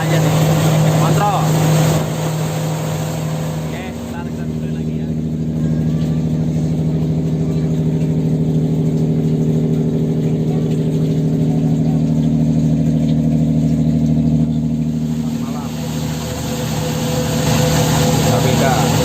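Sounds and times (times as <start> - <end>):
motor boat engine running: 0.0 - 19.0.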